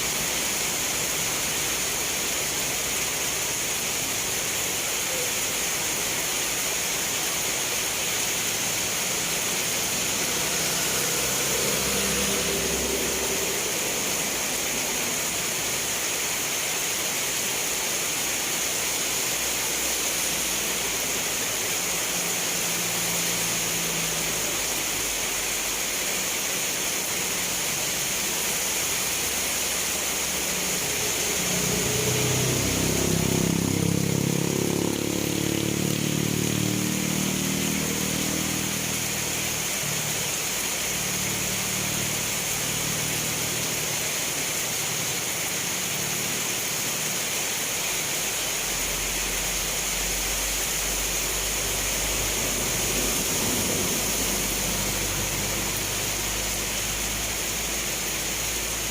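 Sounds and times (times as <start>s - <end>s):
steady rain falling: 0.0s - 58.9s
vehicle engine approaching: 0.0s - 58.9s.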